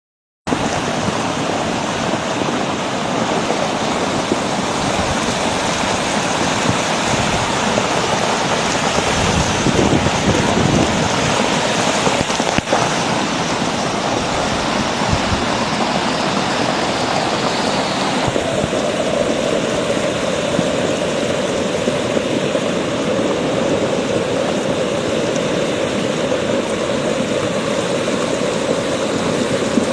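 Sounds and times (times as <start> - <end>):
floodwater rushing: 0.5 - 29.9.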